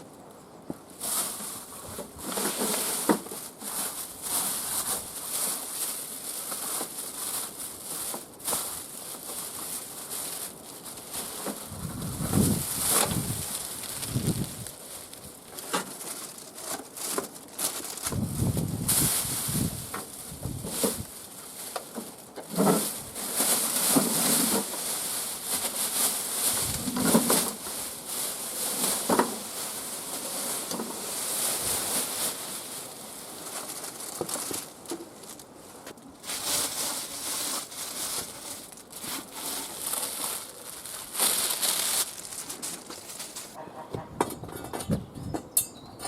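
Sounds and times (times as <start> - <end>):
packaging rustling and crinkling: 0.8 - 43.6.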